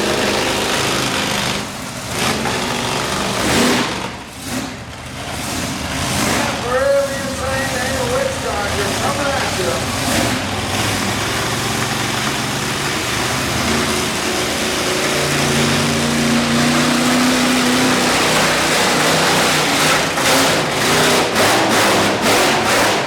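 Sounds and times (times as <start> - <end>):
engine revving: 0.0 - 23.0
monster truck engines running: 0.0 - 23.0.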